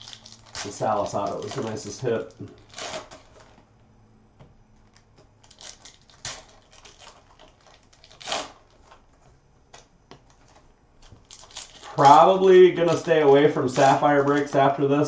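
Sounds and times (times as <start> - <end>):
foil wrapper crinkling and tearing: 0.0 - 3.6, 4.8 - 9.1, 10.3 - 15.0.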